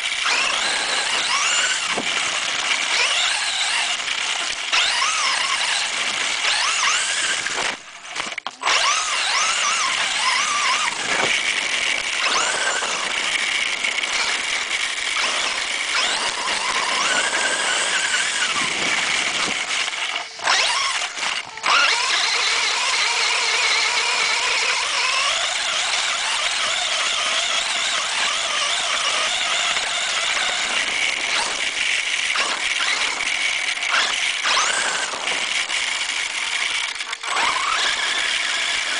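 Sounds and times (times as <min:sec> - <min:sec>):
toy car motor whining: 0:00.0 - 0:38.9.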